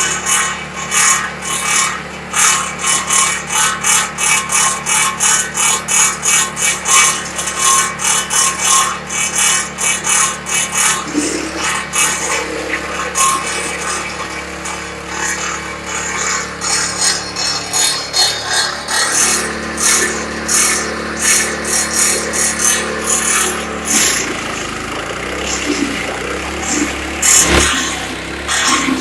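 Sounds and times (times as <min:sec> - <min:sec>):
branch chipper chopping branches: 0:00.0 - 0:29.0.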